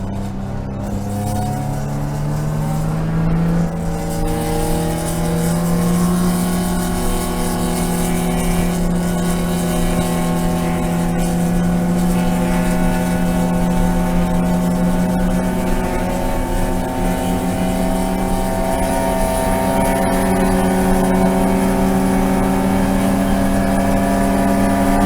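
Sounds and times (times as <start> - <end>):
race car engine revving under load: 0.0 - 25.0.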